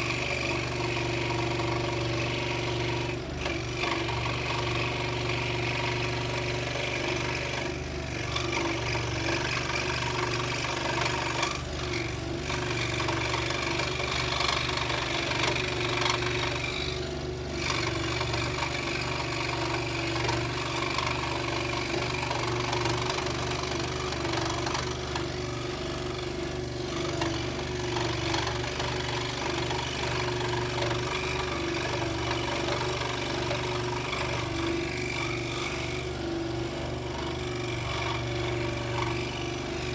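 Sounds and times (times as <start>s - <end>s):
motor hum: 0.0s - 39.9s
scroll saw cutting wood: 0.0s - 39.9s.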